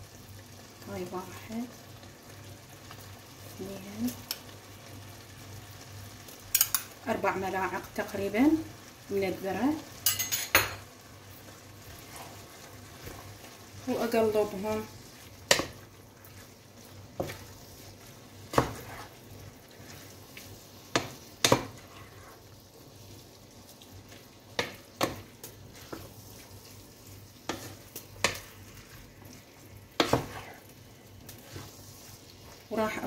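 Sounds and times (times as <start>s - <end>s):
faint frying sizzle: 0.0s - 33.0s.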